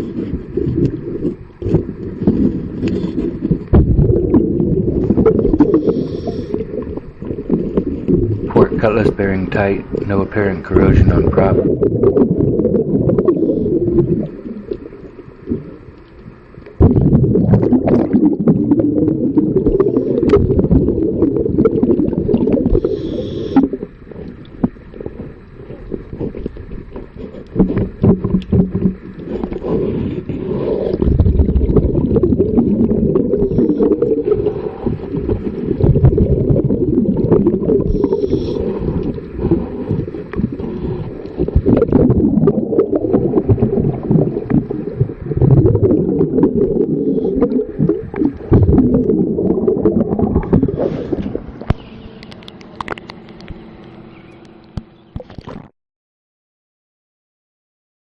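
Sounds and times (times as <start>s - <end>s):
underwater breathing bubbles: 0.0s - 53.0s.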